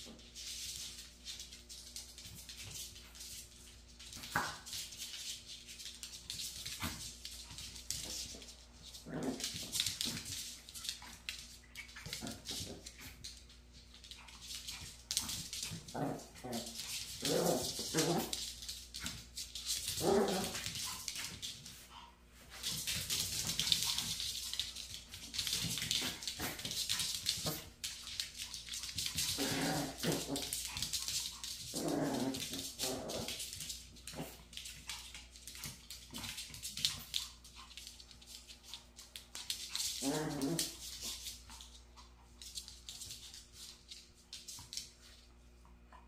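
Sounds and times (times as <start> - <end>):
dog claws scuffling on hard floor: 0.0 - 45.4.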